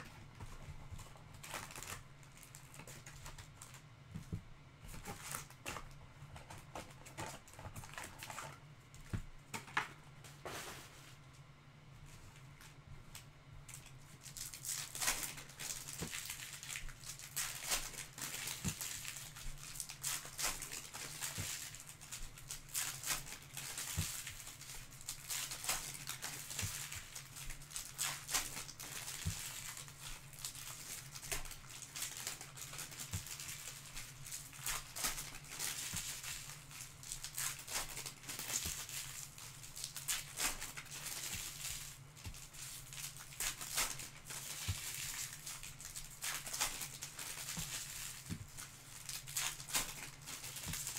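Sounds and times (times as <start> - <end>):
cellophane wrapping crinkling: 0.0 - 9.8, 12.1 - 50.9.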